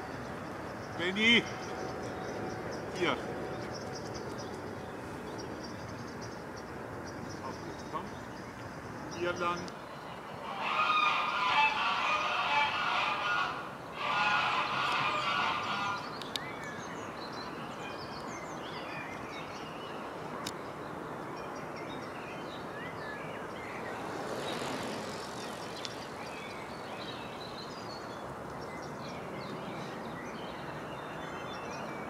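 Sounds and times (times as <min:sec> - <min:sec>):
small birds chirping: 0:00.0 - 0:10.4, 0:14.8 - 0:32.0
distant noise hiss: 0:00.0 - 0:17.7, 0:22.4 - 0:32.0.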